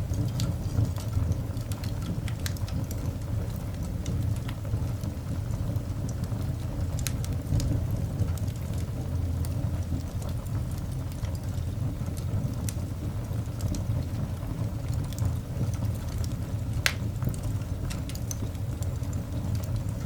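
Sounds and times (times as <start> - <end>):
coal fire crackling and popping: 0.0 - 20.0.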